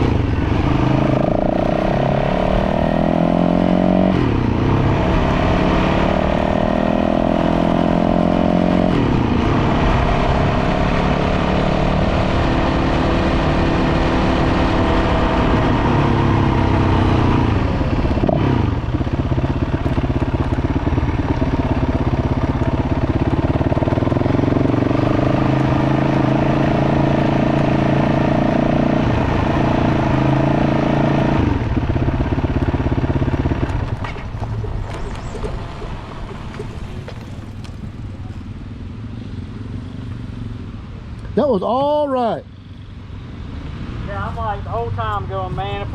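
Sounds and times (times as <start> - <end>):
dirt bike engine: 0.0 - 40.8, 43.8 - 45.9
wind and road noise: 0.0 - 45.9.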